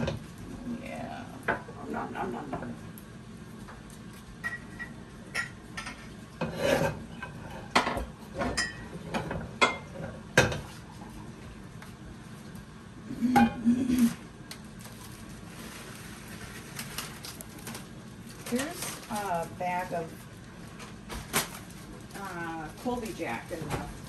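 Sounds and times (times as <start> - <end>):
low hummed sounds: 0.0 - 24.0.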